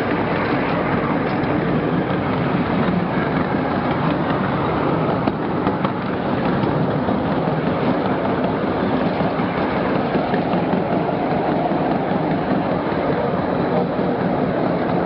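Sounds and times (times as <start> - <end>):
riding train rumbling and rattling: 0.0 - 15.0.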